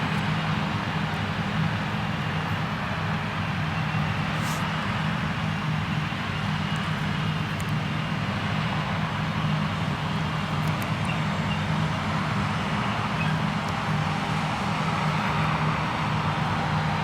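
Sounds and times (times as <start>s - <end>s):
harvester engine drone: 0.0s - 17.0s.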